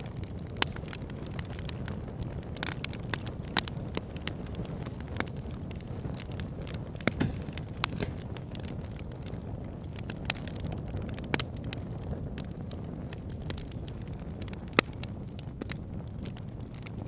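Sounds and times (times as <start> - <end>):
fire crackling and popping: 0.0 - 17.0
wood fire burning: 0.1 - 17.0.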